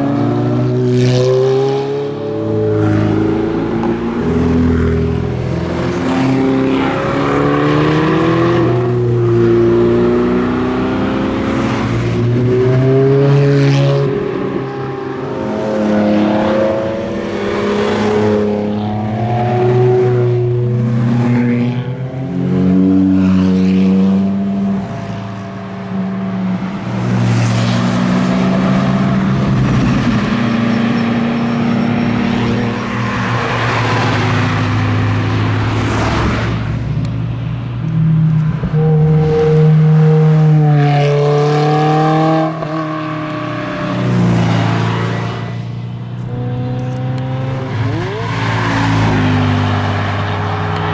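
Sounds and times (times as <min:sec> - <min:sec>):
sports cars driving past: 0:00.0 - 0:50.9.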